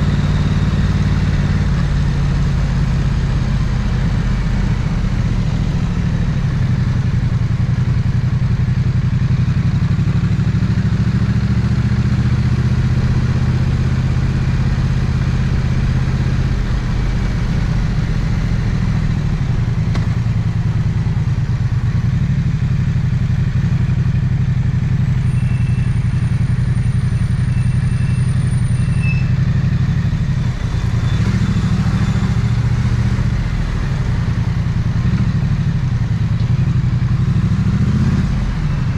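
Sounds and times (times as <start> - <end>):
motorcycle engine running at low revs: 0.0 - 38.9.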